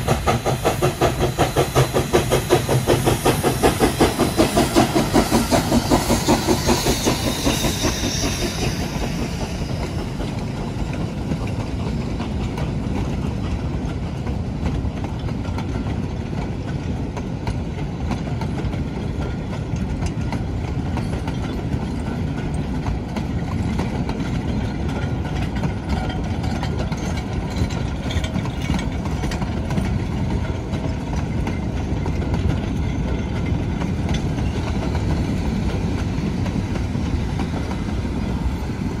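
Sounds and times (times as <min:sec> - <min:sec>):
freight cars rumbling on track: 0:00.0 - 0:39.0
wheels rattling and clicking: 0:00.0 - 0:39.0.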